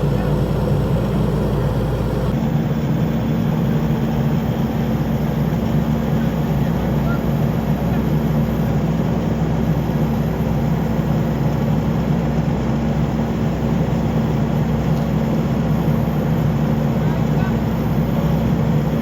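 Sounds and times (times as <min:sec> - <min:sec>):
skid steer engine droning: 0:00.0 - 0:19.0.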